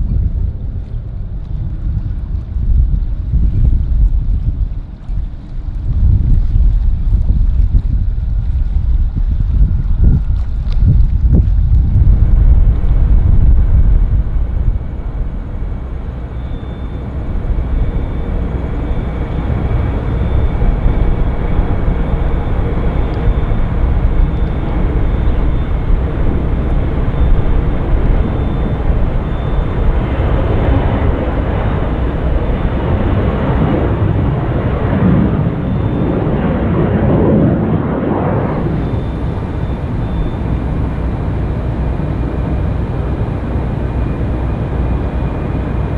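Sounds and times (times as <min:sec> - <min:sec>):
jet airliner engine noise: 0:00.0 - 0:45.9.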